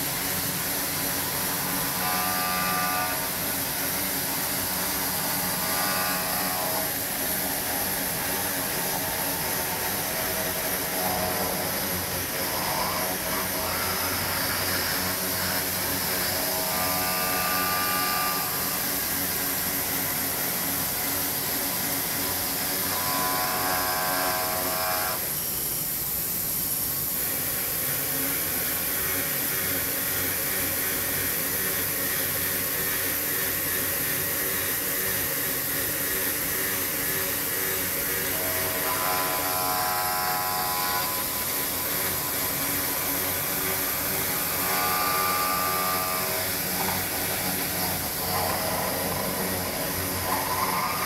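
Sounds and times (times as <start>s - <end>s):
stone milling machine noise: 0.0s - 26.0s, 27.1s - 51.0s
high cutter whine: 0.0s - 51.0s.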